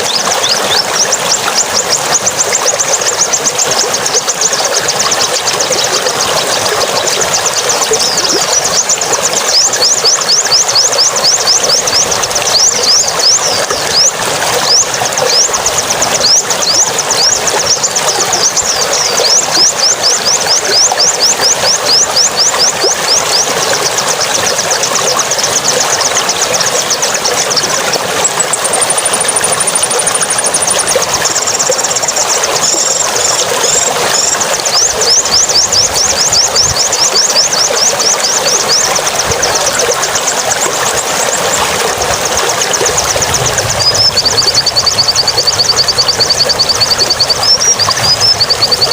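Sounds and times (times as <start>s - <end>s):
songbird calling: 0.0s - 48.9s.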